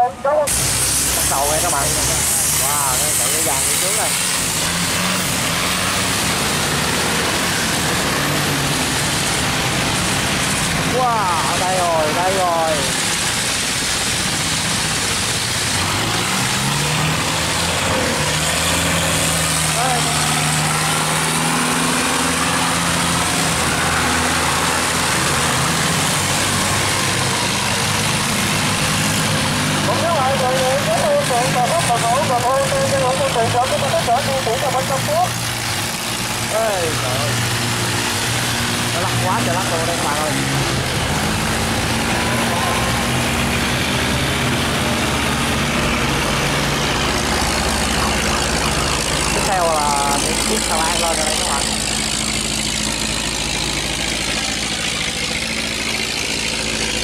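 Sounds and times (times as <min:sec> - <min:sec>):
boat engines droning: 0:00.0 - 0:57.0
churning water rushing: 0:00.0 - 0:57.0.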